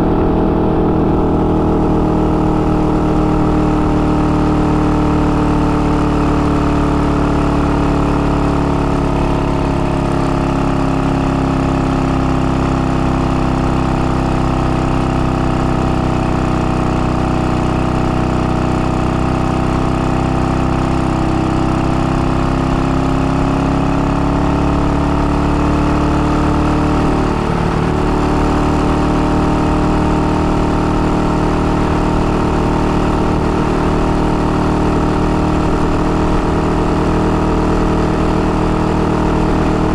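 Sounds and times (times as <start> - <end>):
two-stroke motorcycle engine running: 0.0 - 39.9.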